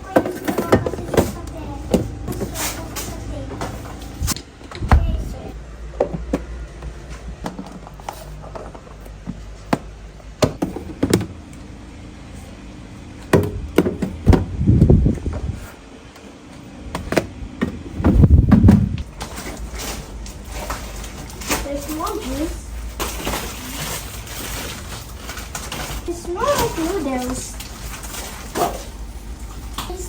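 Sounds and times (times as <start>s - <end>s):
low rumbling: 0.0s - 15.7s, 16.8s - 30.0s.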